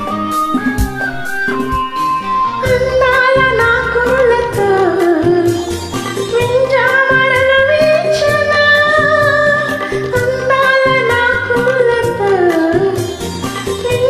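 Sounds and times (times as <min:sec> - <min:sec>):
karaoke backing track with beat: 0:00.0 - 0:14.0
woman singing: 0:02.6 - 0:14.0.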